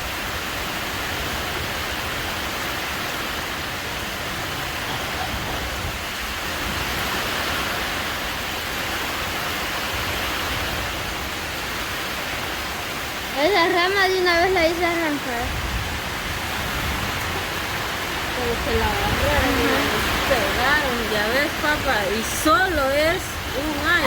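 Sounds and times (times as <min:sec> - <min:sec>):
strong wind with rain: 0:00.0 - 0:24.0.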